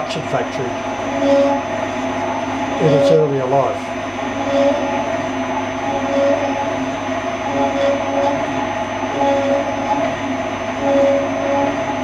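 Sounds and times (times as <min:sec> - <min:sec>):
machine drone: 0:00.0 - 0:12.0.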